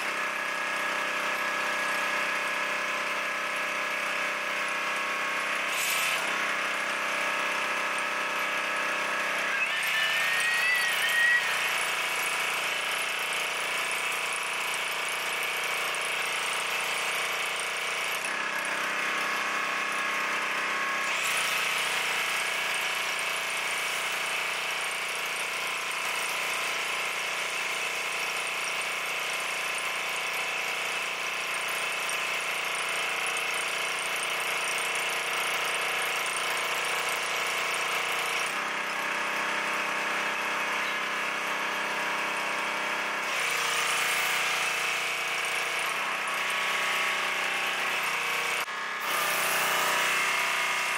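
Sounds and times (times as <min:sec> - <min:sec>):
pressure washer engine running: 0:00.0 - 0:50.9.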